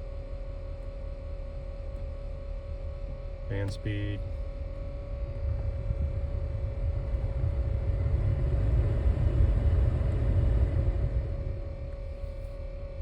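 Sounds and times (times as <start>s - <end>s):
steady whirring tone: 0.0s - 13.0s
car blower fan air rush: 1.4s - 13.0s.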